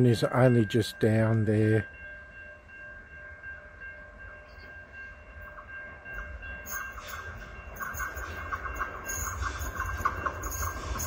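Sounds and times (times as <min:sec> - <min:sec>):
train high whine: 0:00.0 - 0:11.0
train rumble and rattle: 0:00.0 - 0:11.0.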